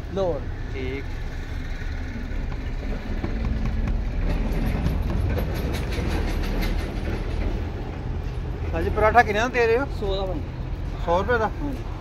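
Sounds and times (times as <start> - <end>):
passing vehicle engine rumble: 0.0 - 12.0.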